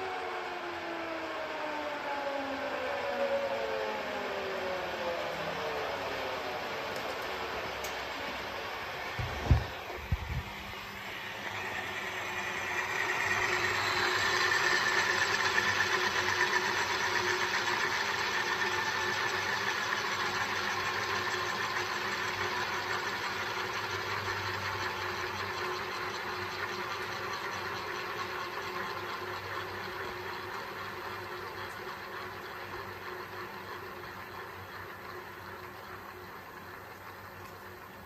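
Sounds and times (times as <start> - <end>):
turbine engine whine: 0.0 - 38.0.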